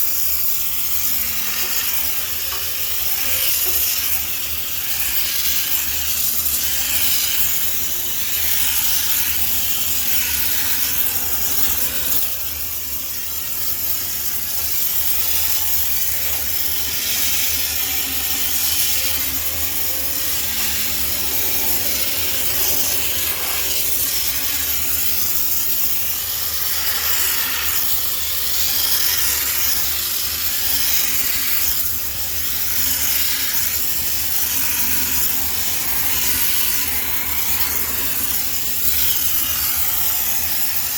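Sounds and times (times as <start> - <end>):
steam cleaner hissing: 0.0 - 40.9.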